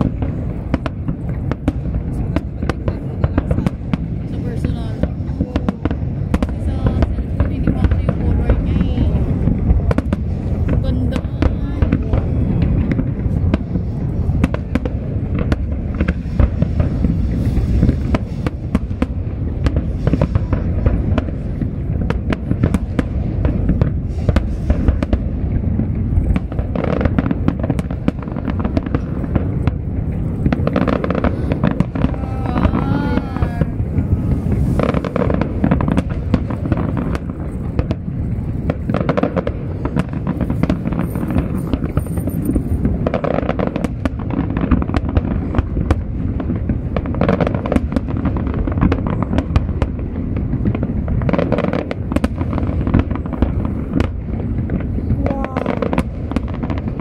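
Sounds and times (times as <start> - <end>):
fireworks booms and crackles: 0.0 - 57.0.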